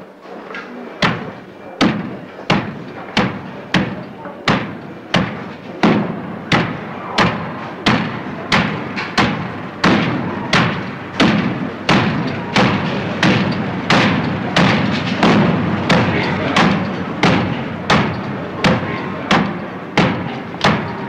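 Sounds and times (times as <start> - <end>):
loud sharp thuds: 1.0 - 21.0.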